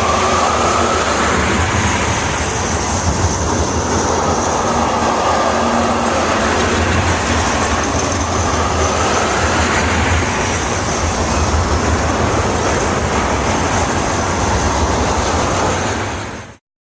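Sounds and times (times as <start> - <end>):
freight train rumbling past: 0.0 - 16.6.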